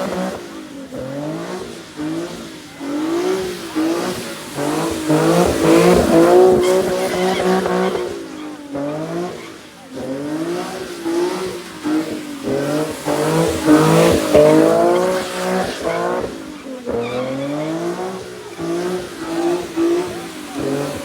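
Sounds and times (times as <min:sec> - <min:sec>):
car engine revving: 0:00.0 - 0:21.0
tire screech: 0:00.0 - 0:21.0.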